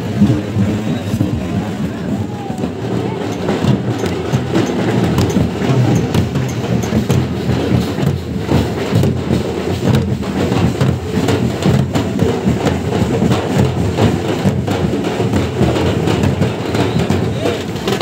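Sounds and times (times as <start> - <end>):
crowd noise rumble: 0.0 - 18.0
fast sharp procession drumming: 0.0 - 18.0.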